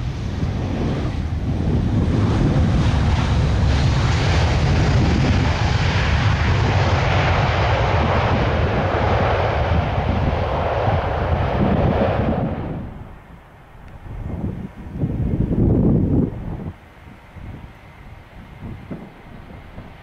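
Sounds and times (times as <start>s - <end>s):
jet engines rushing: 0.0s - 20.0s
wind rumble on microphone: 0.0s - 20.0s.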